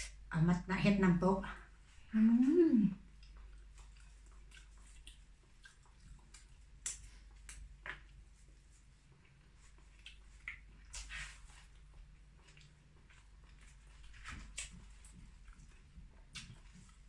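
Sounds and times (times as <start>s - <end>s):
person chewing food: 3.0s - 17.0s.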